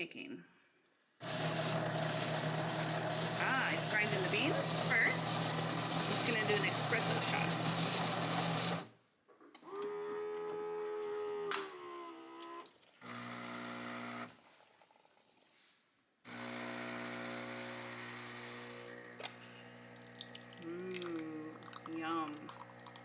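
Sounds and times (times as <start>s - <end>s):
espresso machine motor humming: 1.2s - 8.9s, 10.0s - 14.3s, 16.3s - 23.0s.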